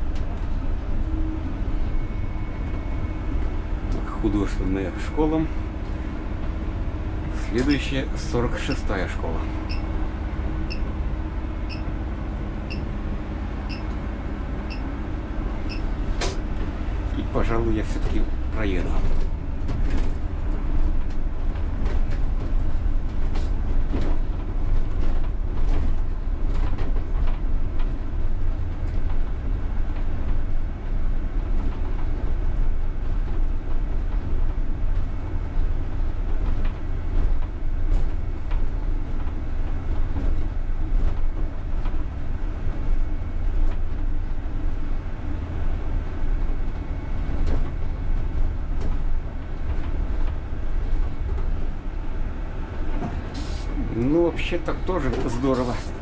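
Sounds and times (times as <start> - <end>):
trolleybus running gear rumble: 0.0 - 56.0.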